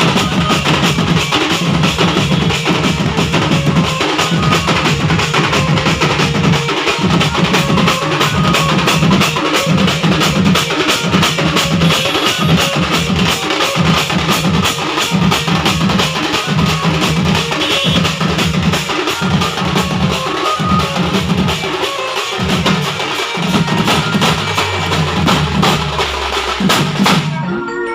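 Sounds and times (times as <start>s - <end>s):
drums fast beat: 0.0s - 27.4s
loud band music: 0.0s - 27.9s.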